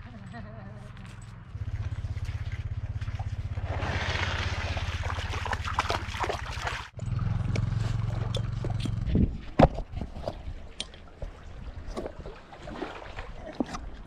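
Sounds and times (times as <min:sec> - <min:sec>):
low steady rumble: 0:00.0 - 0:12.6
water trickling and splashing: 0:01.5 - 0:08.8, 0:09.8 - 0:14.0.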